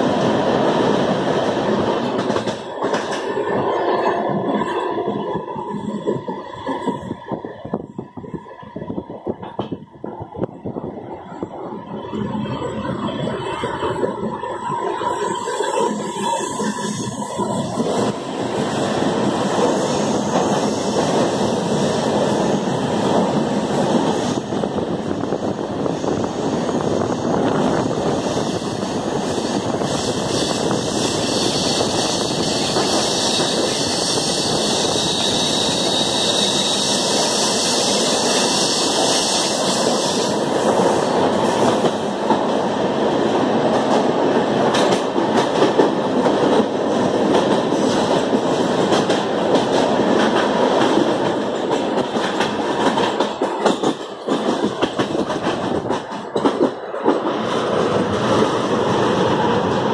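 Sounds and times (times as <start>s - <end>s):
train clicks and knocks: 0.0s - 59.9s
train wheels rumbling on rails: 0.0s - 59.9s.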